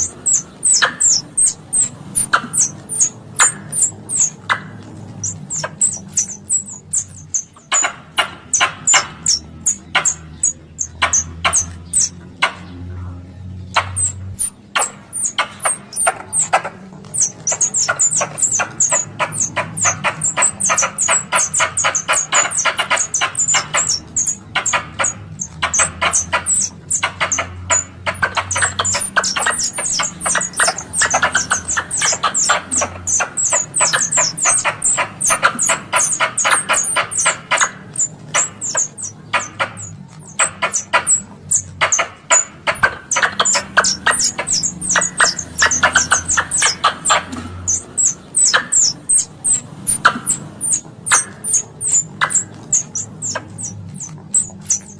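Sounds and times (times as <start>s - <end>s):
squirrel chattering call: 0.0s - 54.9s.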